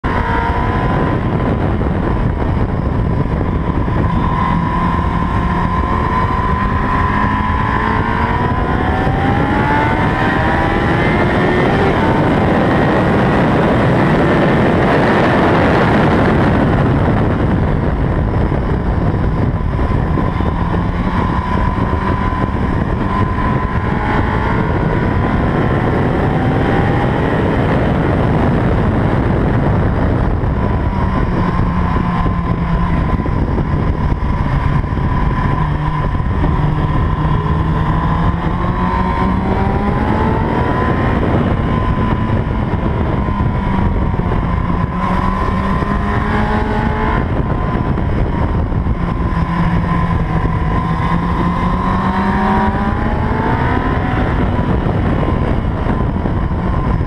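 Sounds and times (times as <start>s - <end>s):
motorcycle engine accelerating: 0.0s - 57.0s
wind rushing over microphone: 0.0s - 57.0s.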